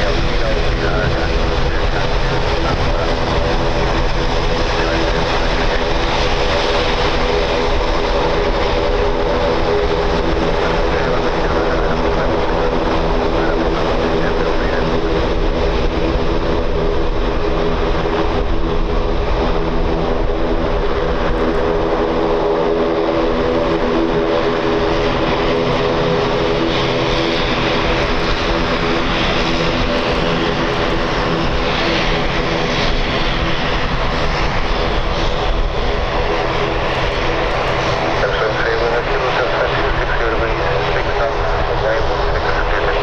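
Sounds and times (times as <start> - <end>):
turboprop airliner taxiing: 0.0 - 43.0.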